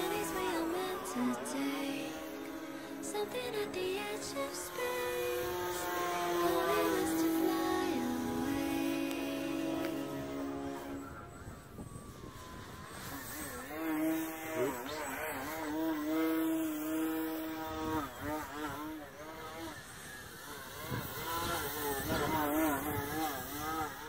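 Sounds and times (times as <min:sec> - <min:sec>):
model plane motor whining: 0:00.0 - 0:24.0.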